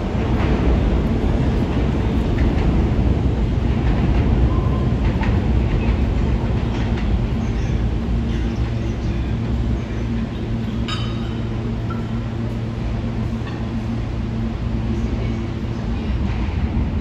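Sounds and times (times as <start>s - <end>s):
subway train rumbling on tracks: 0.0s - 17.0s.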